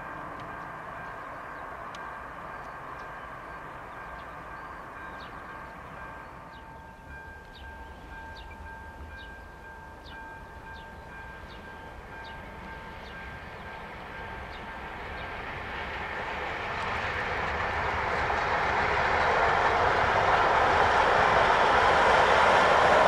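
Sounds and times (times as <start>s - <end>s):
distant diesel locomotive drone: 0.0s - 23.0s
low train rumble: 0.0s - 23.0s.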